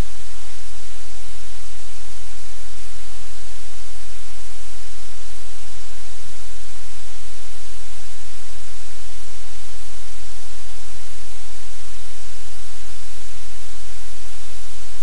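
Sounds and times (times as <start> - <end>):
low electrical hum: 0.0 - 15.0
static hiss: 0.0 - 15.0.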